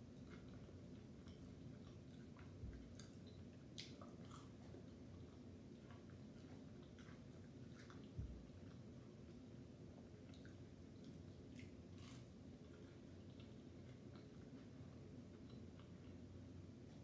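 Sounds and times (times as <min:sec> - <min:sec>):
close chewing: 0:00.0 - 0:17.0.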